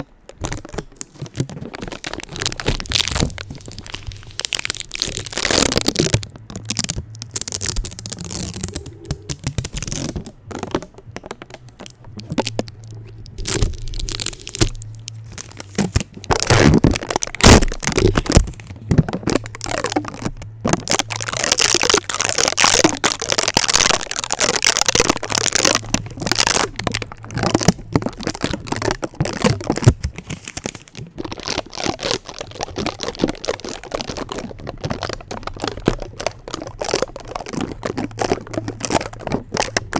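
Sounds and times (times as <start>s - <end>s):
tape crackling on microphone: 0.0s - 39.9s.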